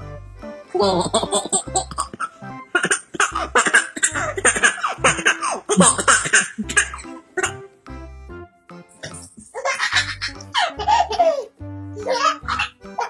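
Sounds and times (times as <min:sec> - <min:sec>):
baby laughing: 0:00.7 - 0:07.6, 0:09.0 - 0:13.0.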